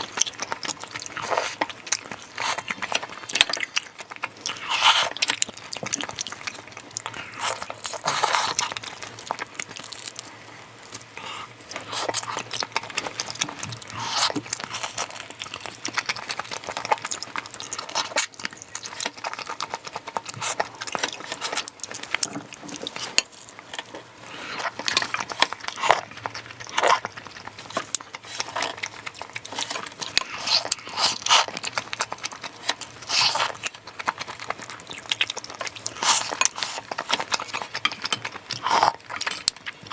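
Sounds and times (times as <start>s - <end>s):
chewing and mouth noises: 0.0s - 39.9s.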